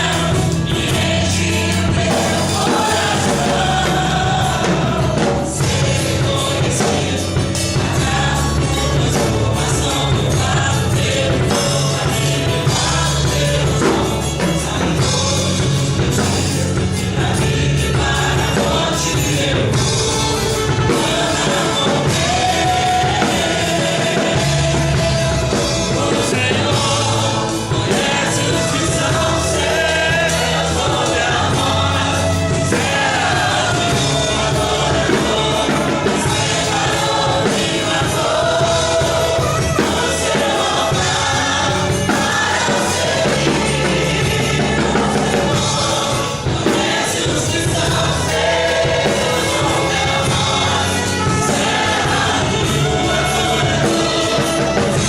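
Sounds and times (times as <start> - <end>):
choir singing gospel song: 0.0 - 55.0.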